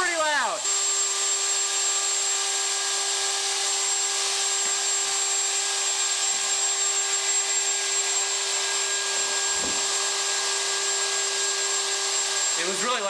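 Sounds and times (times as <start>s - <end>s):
router spindle whine: 0.0s - 13.0s.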